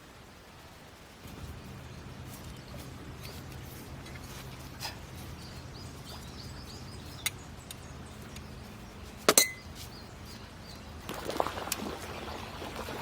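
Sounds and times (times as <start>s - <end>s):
steady low hum: 1.2s - 13.0s.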